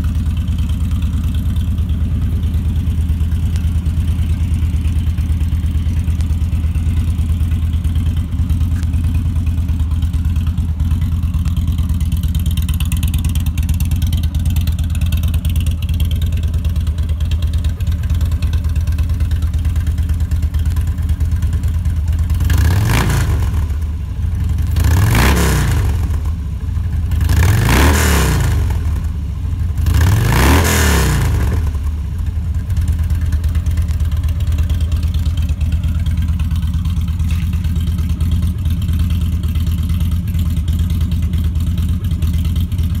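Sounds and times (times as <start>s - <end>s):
motorcycle engine idling: 0.0s - 43.0s
motorcycle engine revving: 0.0s - 43.0s.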